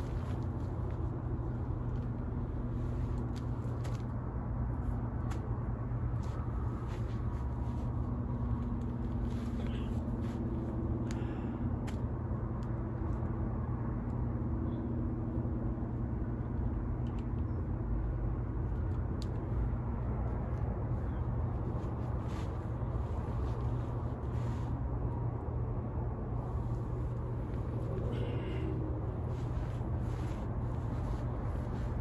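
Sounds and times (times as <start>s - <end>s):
distant road traffic rumble: 0.0s - 32.0s
faint drifting hum: 0.0s - 32.0s.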